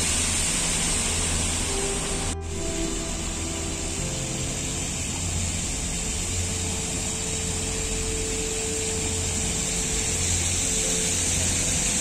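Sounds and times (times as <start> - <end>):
fountain water spray: 0.0 - 12.0
steady hum: 0.0 - 12.0.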